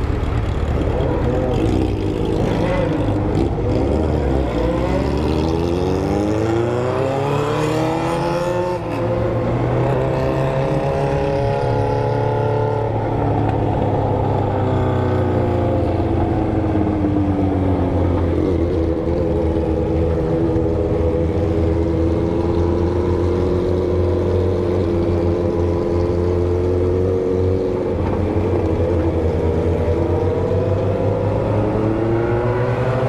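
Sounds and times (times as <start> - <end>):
low drone of engines: 0.0 - 33.0
motorcycle engine revving: 0.0 - 33.0.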